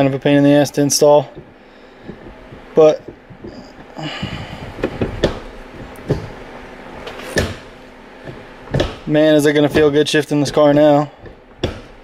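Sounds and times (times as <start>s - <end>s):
gear lever clunking and clicking: 0.0s - 6.4s, 7.0s - 12.0s.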